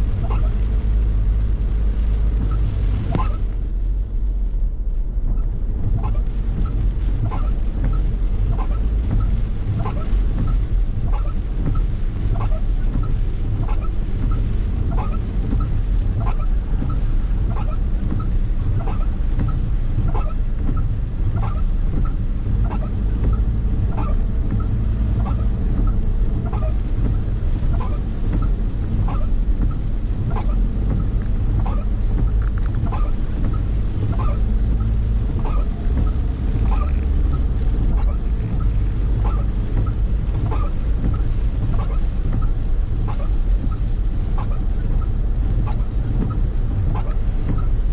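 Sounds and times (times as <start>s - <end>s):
rain: 0.0s - 47.9s
vehicle engine and road rumble: 0.0s - 47.9s.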